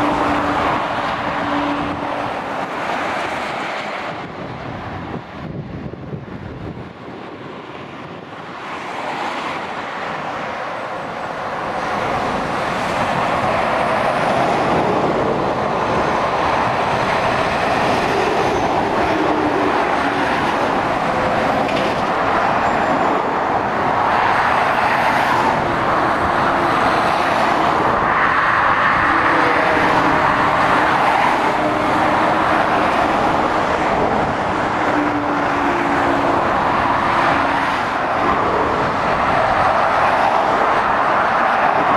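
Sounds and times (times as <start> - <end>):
motorway traffic passing: 0.0 - 41.9.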